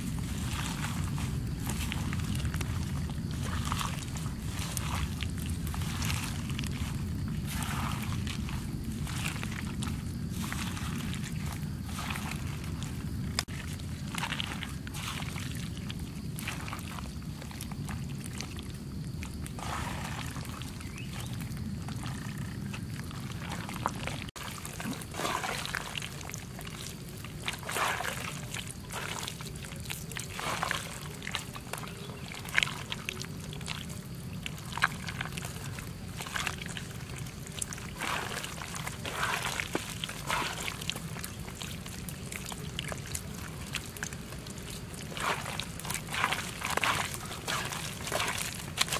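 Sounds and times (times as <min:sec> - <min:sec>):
hands squelching wet mixture: 0:00.0 - 0:48.9
low steady rumble: 0:00.0 - 0:48.9.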